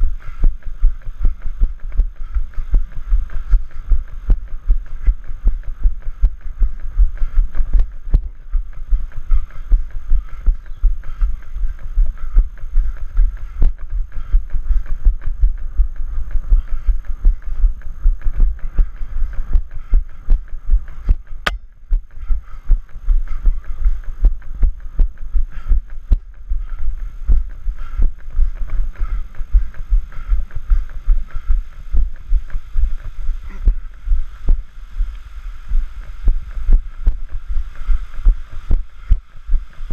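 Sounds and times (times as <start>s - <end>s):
running footsteps on dirt trail: 0.0s - 39.9s.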